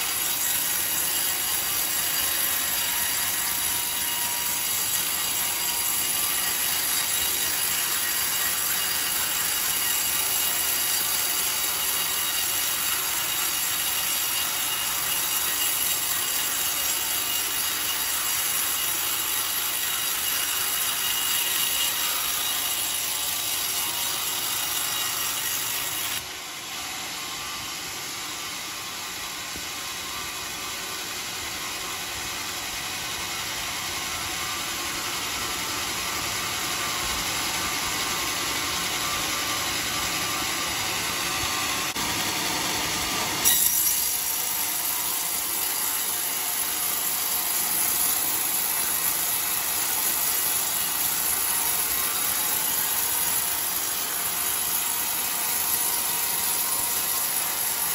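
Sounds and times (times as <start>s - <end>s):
saw blade cutting log: 0.0s - 57.9s.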